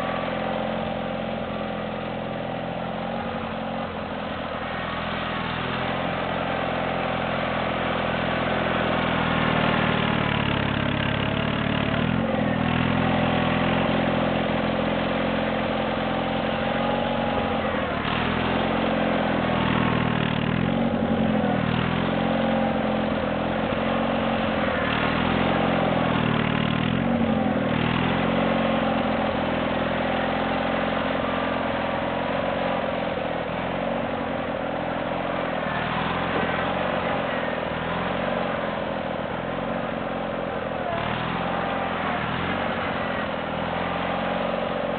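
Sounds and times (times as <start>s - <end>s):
garden tractor engine running: 0.0s - 44.9s.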